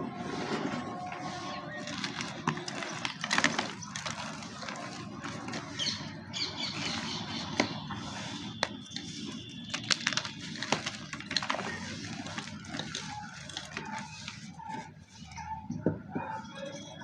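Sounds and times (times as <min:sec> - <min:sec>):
chalk crumbling and crunching: 0:00.1 - 0:15.5.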